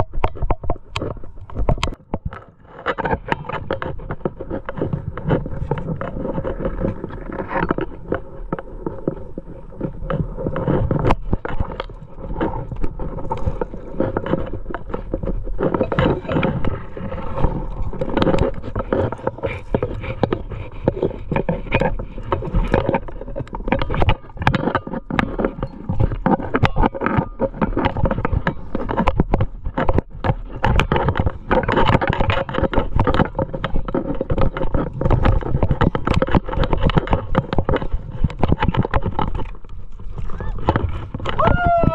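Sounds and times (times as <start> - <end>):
climbing gear clinking and scraping: 0.0 - 41.9.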